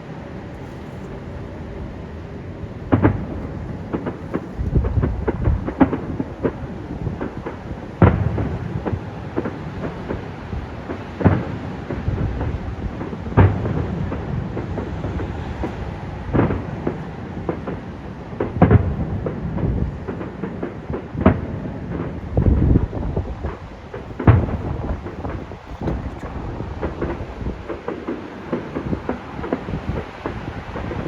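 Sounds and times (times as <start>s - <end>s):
fireworks shells booming: 0.0s - 31.0s
crackle of small pops: 0.4s - 31.0s.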